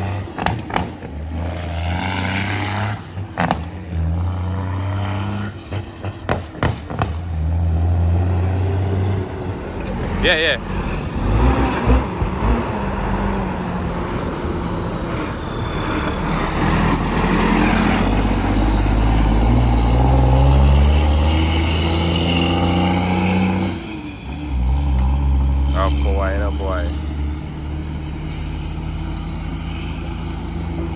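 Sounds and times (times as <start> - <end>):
diesel truck engine accelerating: 0.0 - 30.9
traffic engine noise: 0.0 - 30.9.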